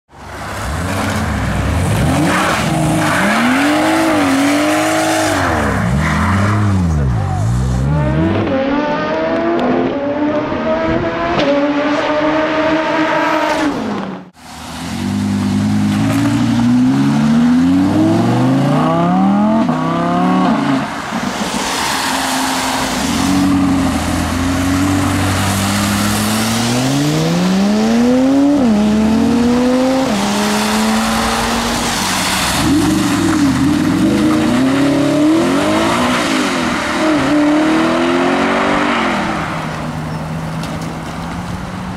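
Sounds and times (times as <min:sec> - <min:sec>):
car engines accelerating hard: 0:00.2 - 0:41.9.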